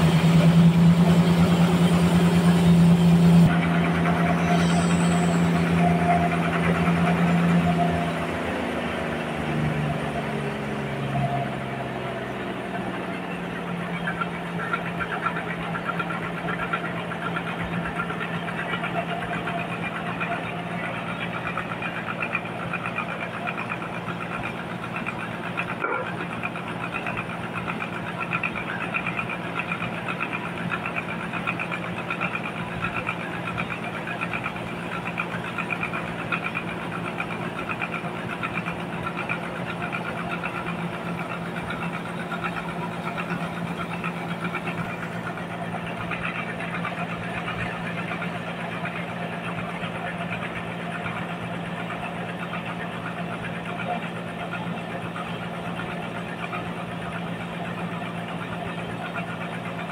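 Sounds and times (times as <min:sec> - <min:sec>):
band sawmill running: 0:00.0 - 0:59.9.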